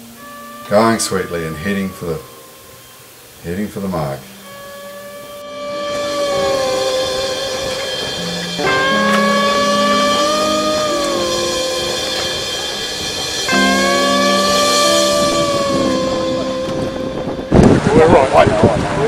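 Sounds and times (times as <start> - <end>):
background music with bending lead: 0.0 - 18.4.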